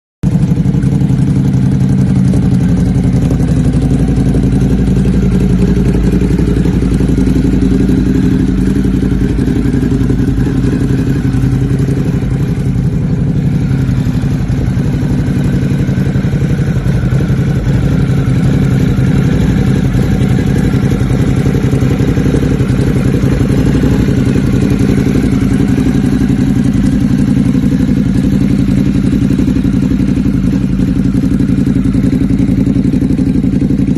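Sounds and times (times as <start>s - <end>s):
motorcycle engine running: 0.2s - 33.9s.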